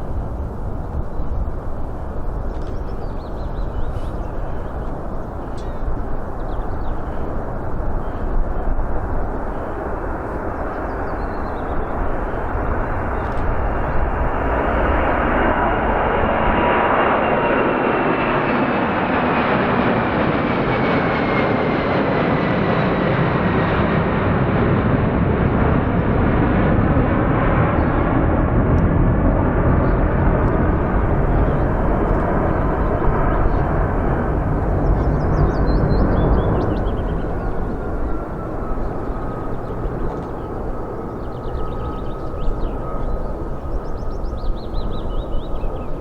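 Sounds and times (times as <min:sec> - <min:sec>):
jet engines running loud: 0:00.0 - 0:46.0.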